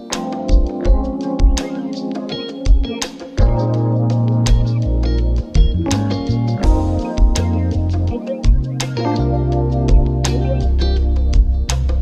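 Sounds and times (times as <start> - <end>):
background music with drum beat: 0.0 - 12.0
held chords: 0.0 - 12.0
low kick drum: 0.5 - 1.6, 2.7 - 12.0.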